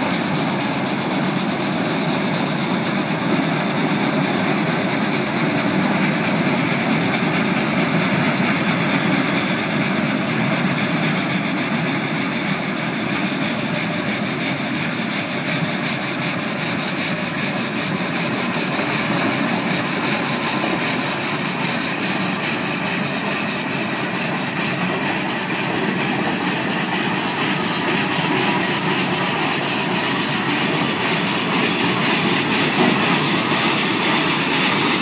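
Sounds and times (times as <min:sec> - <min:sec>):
steam locomotive rattle and hiss: 0:00.0 - 0:35.0.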